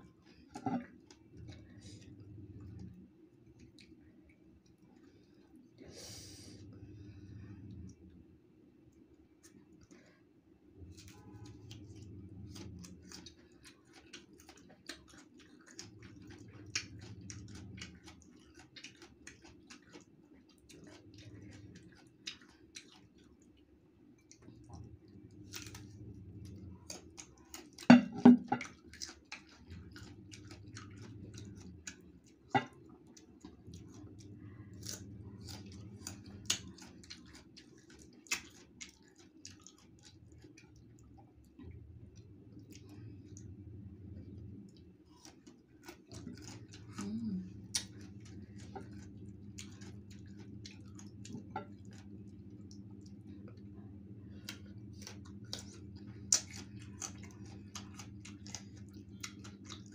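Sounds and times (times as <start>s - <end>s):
chewing and crunching fruit: 0.0s - 59.9s
steady low hum: 0.0s - 59.9s.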